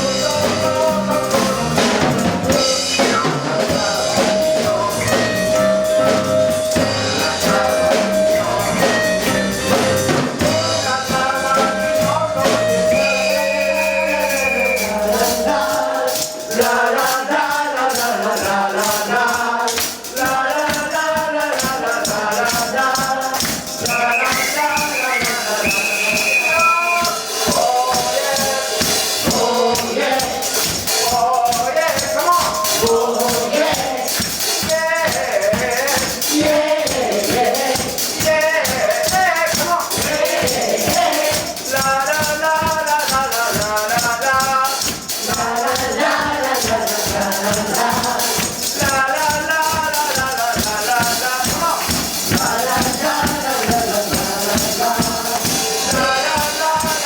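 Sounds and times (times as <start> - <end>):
quick percussion rhythm: 0.0 - 57.0
voices singing together: 0.0 - 57.0.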